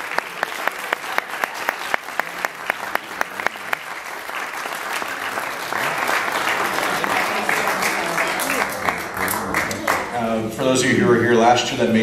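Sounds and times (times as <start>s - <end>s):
hands clapping close by: 0.0s - 10.1s
audience applauding: 0.0s - 10.4s.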